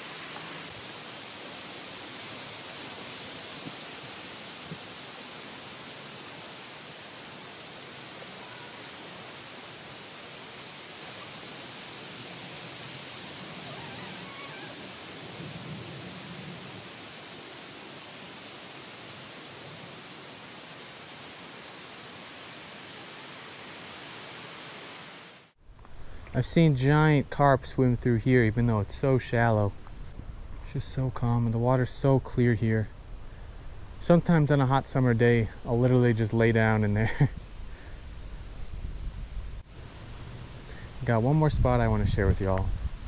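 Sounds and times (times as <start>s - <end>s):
outdoor hiss: 0.0s - 43.0s.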